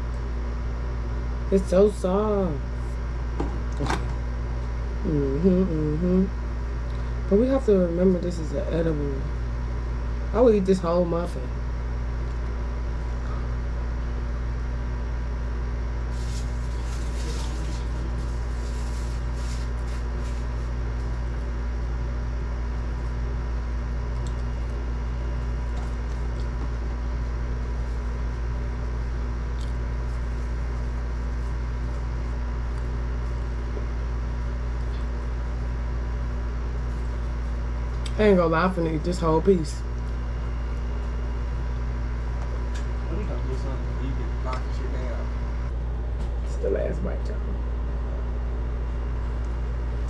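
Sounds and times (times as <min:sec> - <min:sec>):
low mechanical hum with tones: 0:00.0 - 0:50.0.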